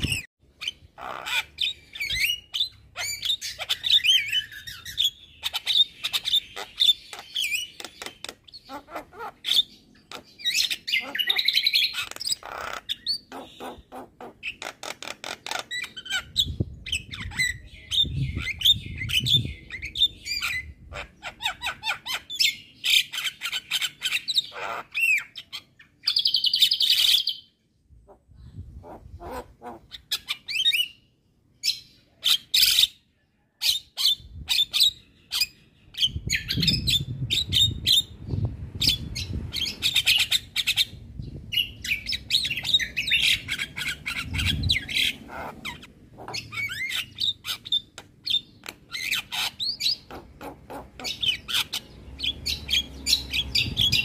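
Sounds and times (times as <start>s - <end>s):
bird singing chirps and whistles: 0.0s - 13.8s, 15.5s - 27.5s, 33.6s - 50.1s, 51.0s - 54.0s.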